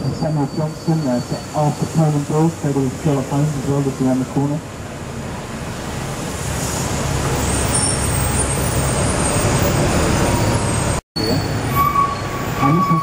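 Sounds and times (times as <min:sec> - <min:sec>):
bus engine rumble: 0:00.0 - 0:13.0
road and traffic hiss: 0:00.0 - 0:13.0.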